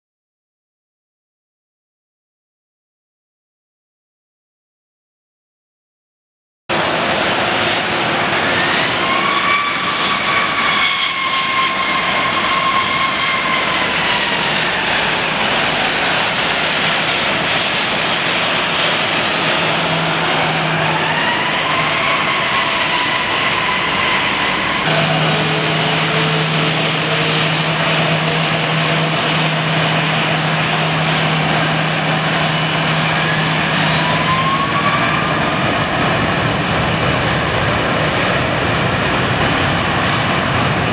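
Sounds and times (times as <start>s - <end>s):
jet engines whining: 6.7s - 40.9s.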